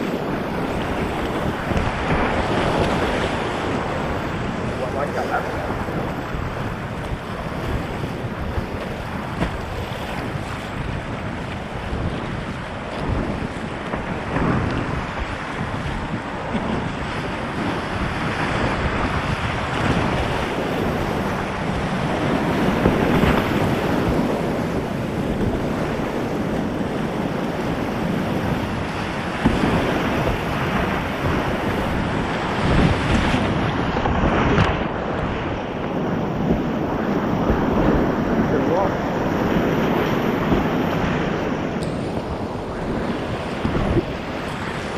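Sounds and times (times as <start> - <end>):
paddle strokes splashing: 0.0 - 44.9
whitewater rapids rushing: 0.0 - 44.9
wind buffeting microphone: 0.0 - 44.9.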